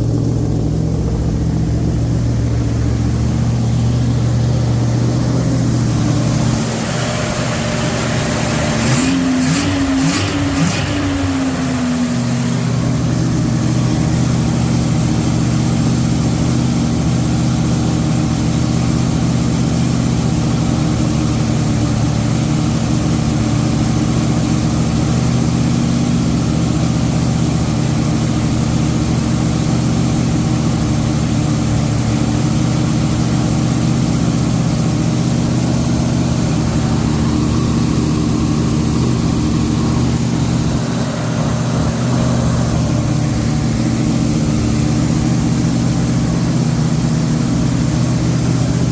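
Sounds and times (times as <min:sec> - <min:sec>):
car engine running steadily: 0:00.0 - 0:48.9.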